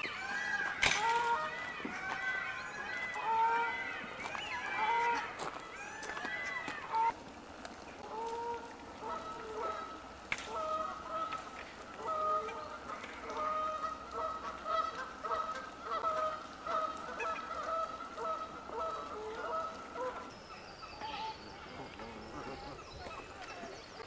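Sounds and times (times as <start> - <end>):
geese honking: 0.0 - 7.1, 8.0 - 20.3.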